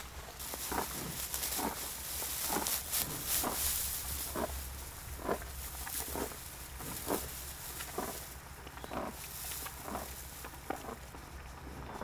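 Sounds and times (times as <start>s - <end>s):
dry hay rustling: 0.0s - 12.0s
rhinoceros tearing and chewing grass: 0.0s - 12.0s.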